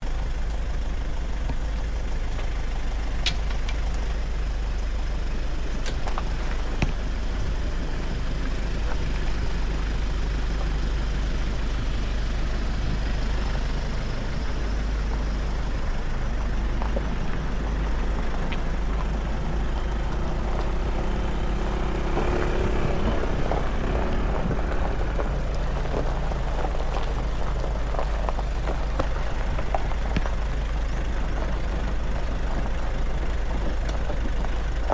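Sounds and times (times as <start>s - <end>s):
vehicle engine and road rumble: 0.0s - 34.9s.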